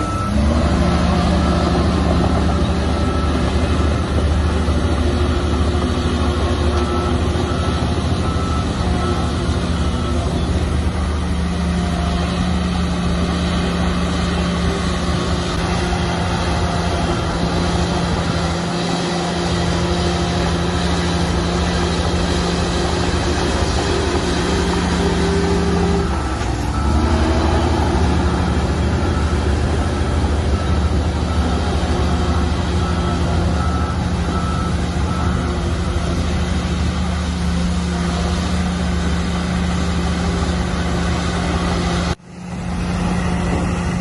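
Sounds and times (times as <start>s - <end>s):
diesel earthmoving machinery: 0.0s - 44.0s.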